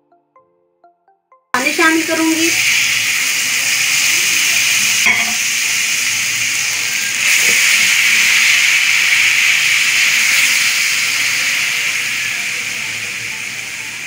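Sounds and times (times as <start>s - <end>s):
sauce sizzling in a pan: 1.6s - 14.0s.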